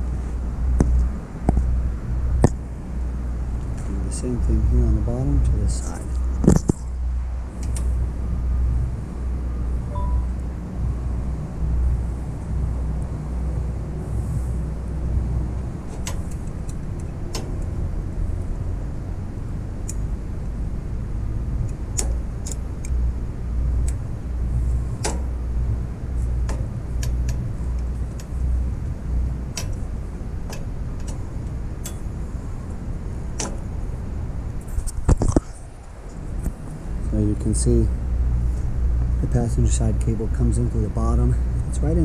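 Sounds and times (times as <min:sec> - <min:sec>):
steady low rumble: 0:00.0 - 0:42.0.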